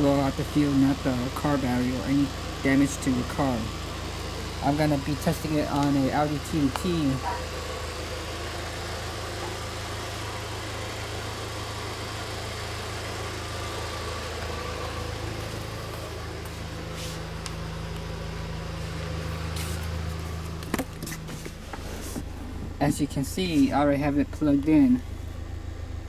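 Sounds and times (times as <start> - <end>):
car engine idling: 0.0 - 26.0
steady buzzing: 0.0 - 26.0.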